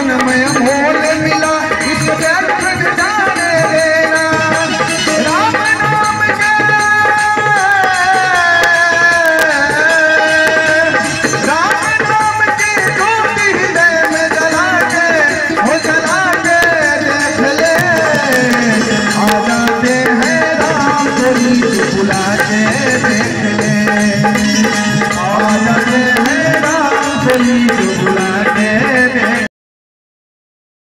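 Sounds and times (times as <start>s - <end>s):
keyboard: 0.0s - 29.5s
man singing through loudspeaker: 0.0s - 29.5s
tabla: 0.0s - 29.5s.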